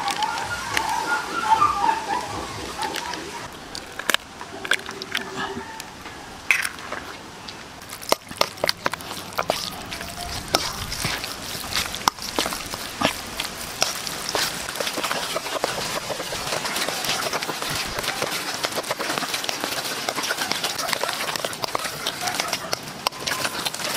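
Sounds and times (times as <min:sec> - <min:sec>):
wet squish of mixture: 0:00.0 - 0:23.9.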